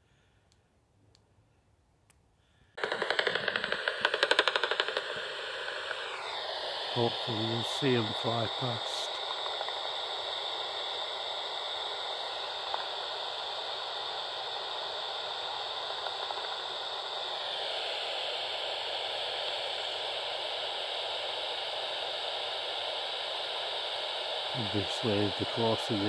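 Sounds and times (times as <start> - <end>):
static hiss from bat detector: 2.8 - 26.0.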